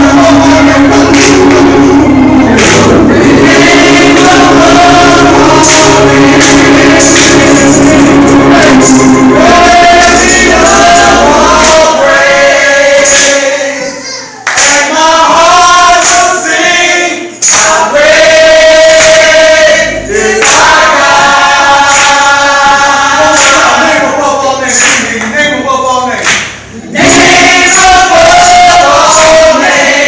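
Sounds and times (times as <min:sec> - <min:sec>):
sharp percussive hits: 0:00.0 - 0:13.5, 0:14.5 - 0:24.0, 0:26.2 - 0:30.0
gospel choir singing: 0:00.0 - 0:25.4, 0:26.6 - 0:30.0.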